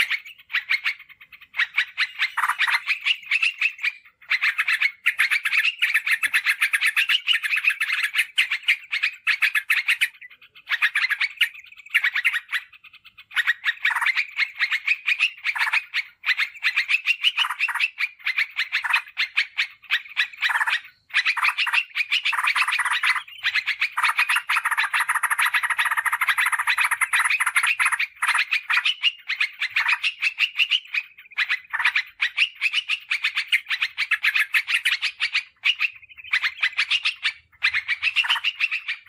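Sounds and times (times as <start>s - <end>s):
bird chattering call: 0.0s - 39.0s.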